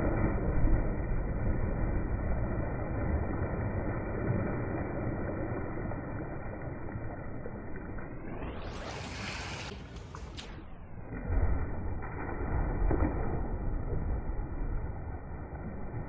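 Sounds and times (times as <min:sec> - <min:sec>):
pool water splashing: 0:00.0 - 0:16.0.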